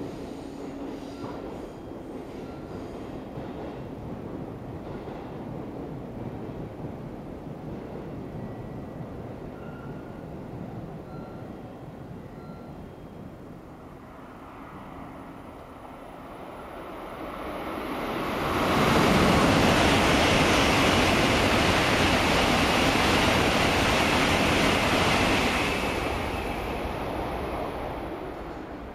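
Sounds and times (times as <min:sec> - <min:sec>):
high-speed train rushing past: 0:00.0 - 0:28.9.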